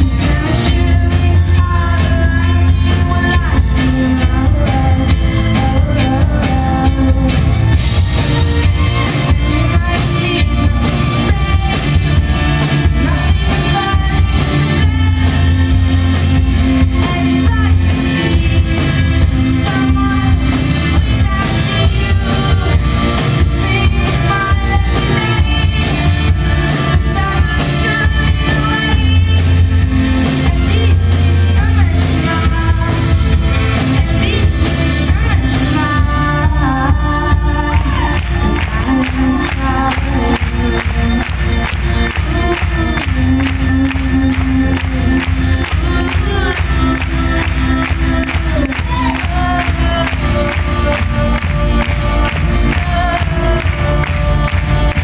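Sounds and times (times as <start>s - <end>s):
female singing: 0.0s - 7.9s, 9.1s - 55.0s
drums: 0.0s - 55.0s
heavy bass: 0.0s - 55.0s.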